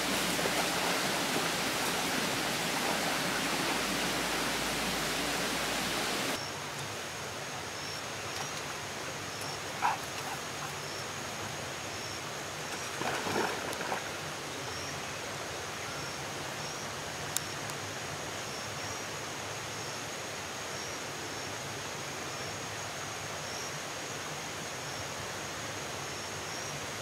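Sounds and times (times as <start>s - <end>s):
stream rushing over cascade: 0.0s - 27.0s.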